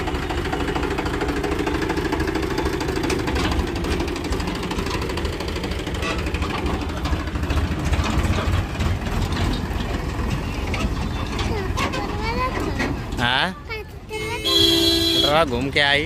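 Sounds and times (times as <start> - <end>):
tractor diesel engine rumbling: 0.0 - 16.0.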